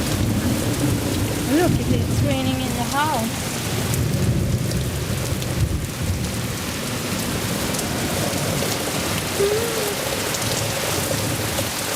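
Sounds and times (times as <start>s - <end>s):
low thunder rumble: 0.0s - 11.7s
heavy rain splashing: 0.0s - 11.9s.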